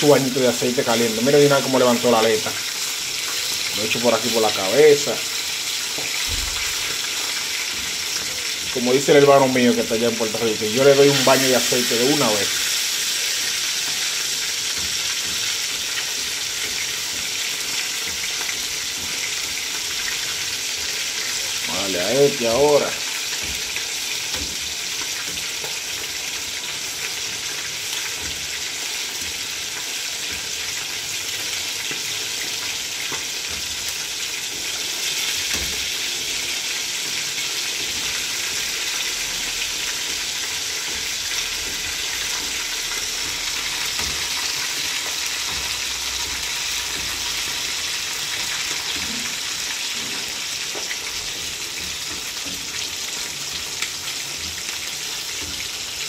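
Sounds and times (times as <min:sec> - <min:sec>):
fish sizzling in hot oil: 0:00.0 - 0:56.0.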